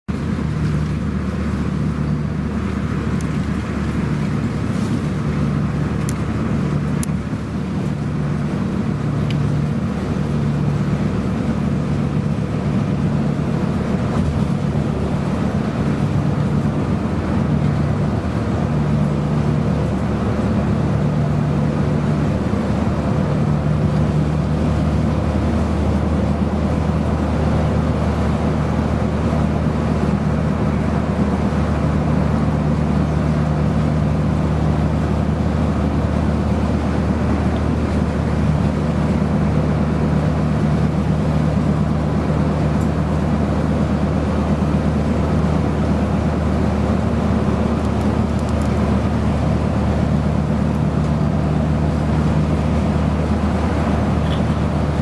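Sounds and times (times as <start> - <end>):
bus engine drone: 0.0 - 55.0
road noise: 0.0 - 55.0.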